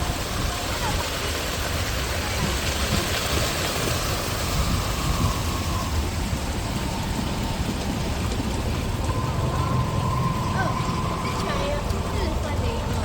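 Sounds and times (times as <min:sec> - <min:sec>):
floodwater pouring through drain: 0:00.0 - 0:13.0.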